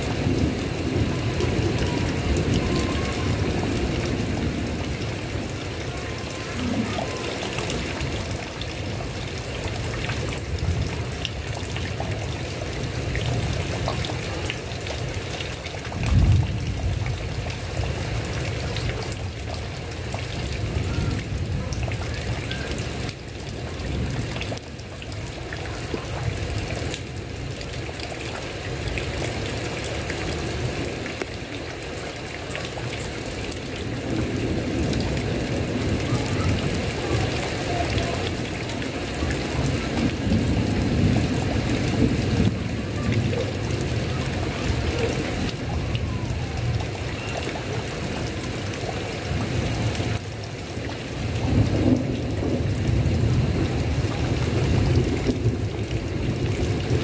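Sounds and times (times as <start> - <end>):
heavy rain on a tile roof: 0.0 - 57.0.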